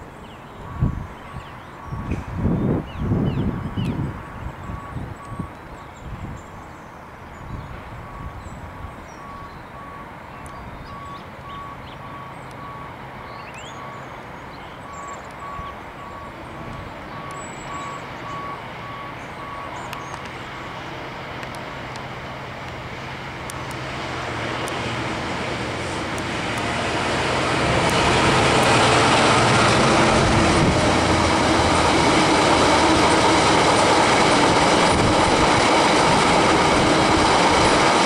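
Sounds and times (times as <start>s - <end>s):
diesel locomotive engine hum: 0.0s - 38.0s.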